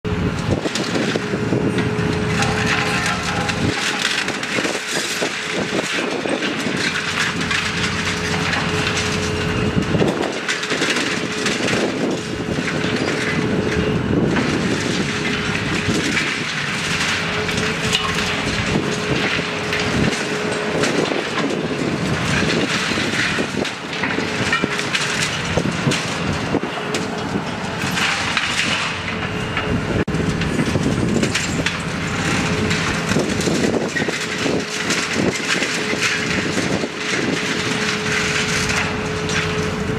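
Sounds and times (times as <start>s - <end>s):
excavator engine hum: 0.1s - 39.9s
concrete crunching: 0.2s - 39.9s
concrete chunks crashing down: 0.5s - 29.2s, 30.0s - 39.8s.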